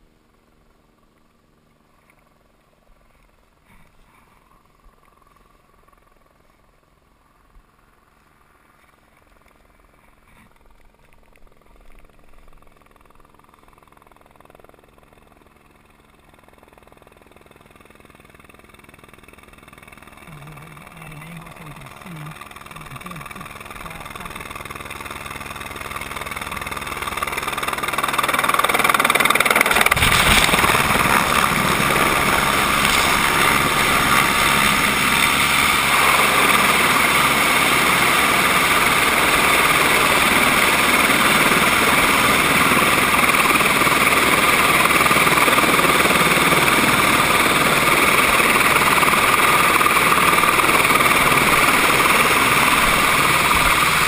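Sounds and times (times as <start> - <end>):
helicopter rotor and engine: 0.0 - 54.0
helicopter turbine whine: 0.0 - 54.0.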